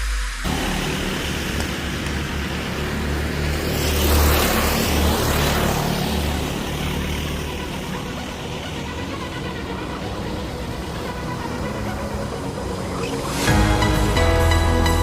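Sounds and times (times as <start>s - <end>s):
go-kart engines racing: 0.4s - 14.5s.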